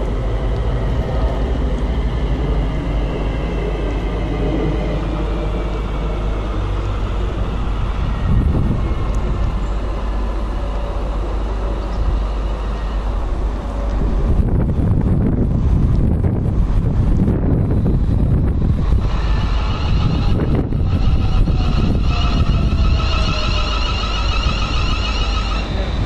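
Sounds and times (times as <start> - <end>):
train low rumble: 0.0 - 26.0
train traction motor whine: 0.0 - 26.0.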